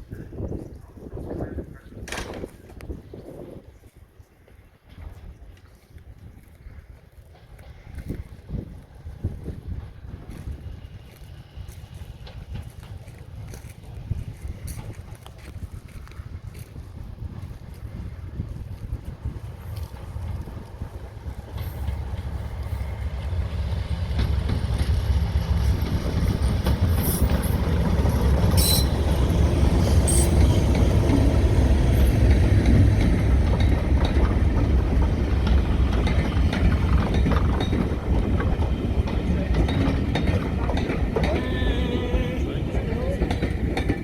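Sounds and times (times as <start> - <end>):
diesel train engine rumble: 0.0 - 44.0.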